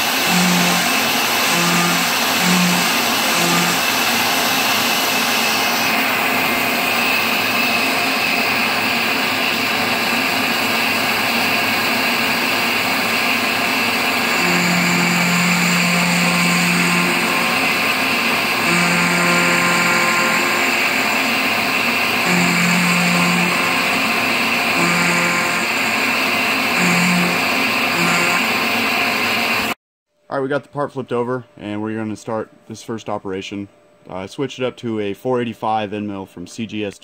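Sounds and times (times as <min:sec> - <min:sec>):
milling machine cutting metal: 0:00.0 - 0:29.8.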